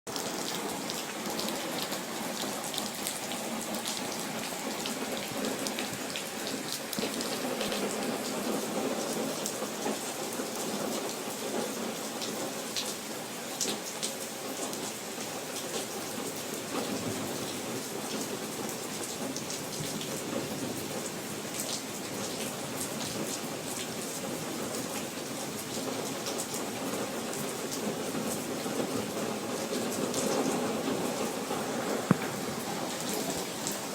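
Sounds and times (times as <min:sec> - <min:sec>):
raindrops ticking on a surface: 0:00.1 - 0:33.9
steady rain falling: 0:00.1 - 0:33.9.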